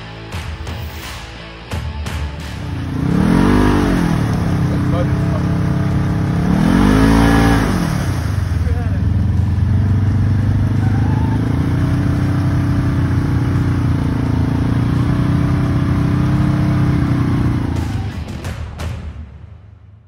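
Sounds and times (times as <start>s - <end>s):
engine running under load: 2.4s - 19.0s.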